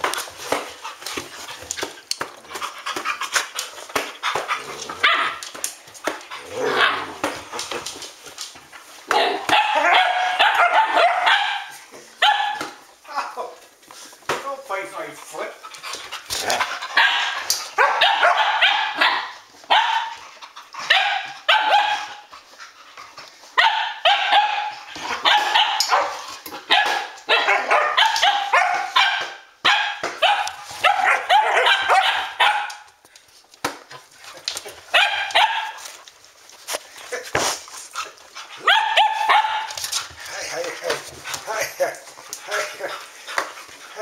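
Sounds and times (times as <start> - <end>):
dogs barking and yipping: 0.0 - 13.0, 15.6 - 33.0, 33.9 - 44.0.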